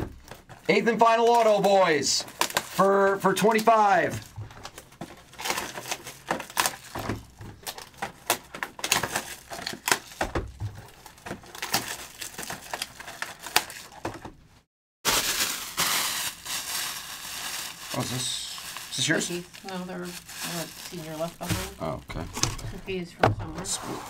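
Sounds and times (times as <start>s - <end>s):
card wrapper crinkling: 0.2s - 14.1s, 15.0s - 22.6s.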